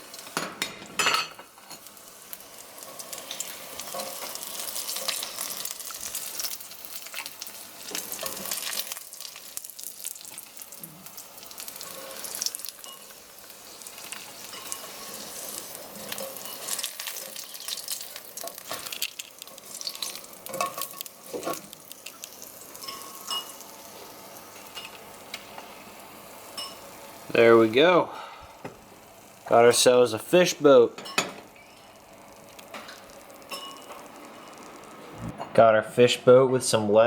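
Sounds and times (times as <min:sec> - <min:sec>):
fish frying in hot oil: 0:00.0 - 0:35.2.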